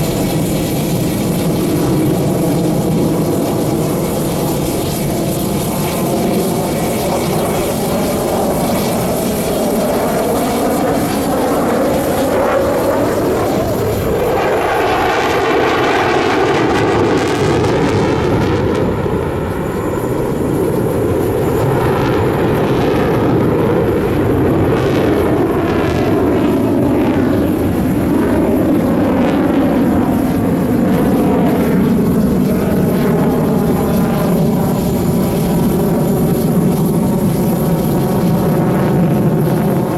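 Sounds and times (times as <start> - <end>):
fighter jets roaring overhead: 0.0 - 39.9.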